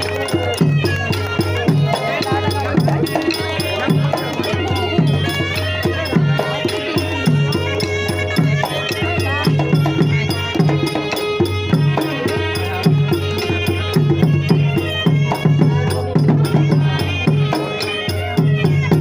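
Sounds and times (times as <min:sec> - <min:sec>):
drums in quick rhythm: 0:00.0 - 0:19.0
rattling percussion: 0:00.0 - 0:19.0.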